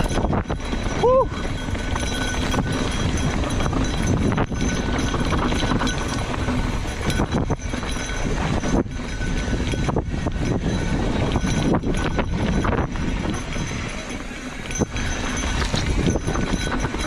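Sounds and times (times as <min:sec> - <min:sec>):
bike clattering over bumps: 0:00.0 - 0:17.0
tyres rumbling over dirt and rock: 0:00.0 - 0:17.0.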